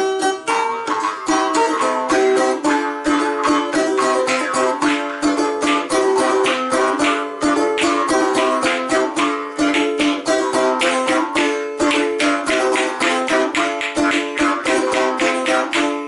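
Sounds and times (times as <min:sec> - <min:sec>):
balalaika strummed fast: 0:00.0 - 0:16.0
jaw harp droning: 0:00.5 - 0:16.0.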